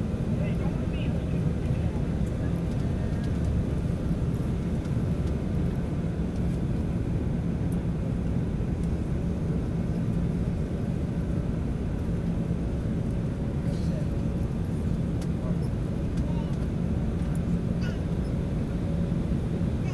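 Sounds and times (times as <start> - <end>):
constant low hum: 0.0 - 19.9
jet engine and airflow rumble: 0.0 - 19.9.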